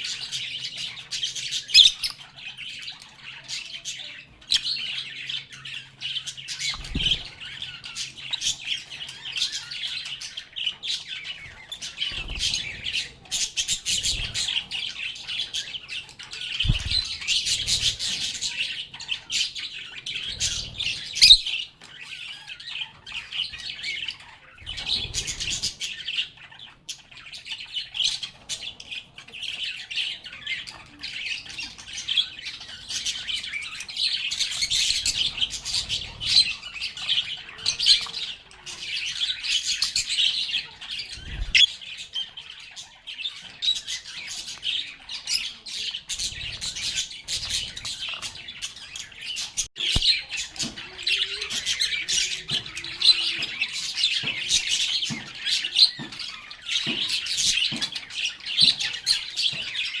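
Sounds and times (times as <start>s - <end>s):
lovebirds chirping and squawking: 0.0s - 60.0s.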